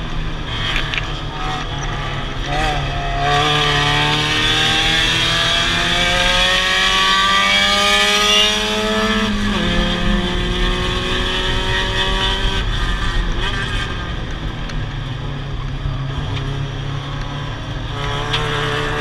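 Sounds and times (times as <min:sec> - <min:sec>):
car engine accelerating hard: 0:00.6 - 0:19.0.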